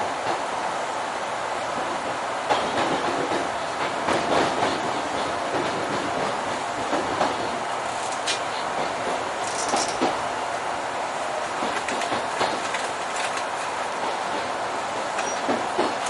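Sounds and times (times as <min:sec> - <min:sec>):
train rumbling on rails: 0:00.0 - 0:16.0
wheels clicking over rail joints: 0:01.8 - 0:10.4, 0:11.4 - 0:16.0.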